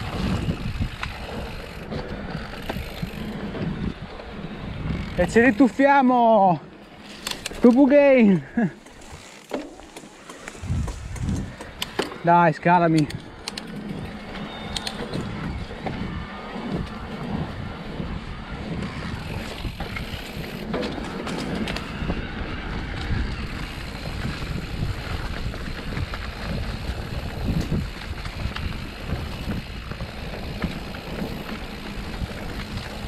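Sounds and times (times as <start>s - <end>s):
wind buffeting microphone: 0.0s - 5.8s, 6.6s - 33.0s
bike rattling with clicks: 0.0s - 33.0s
bike tyres rumbling over dirt: 0.0s - 33.0s.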